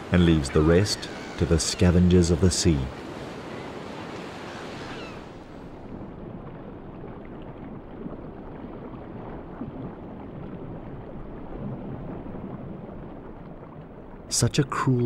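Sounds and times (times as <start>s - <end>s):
muffled underwater rush: 0.0s - 15.0s
water lapping and splashing: 0.0s - 15.0s.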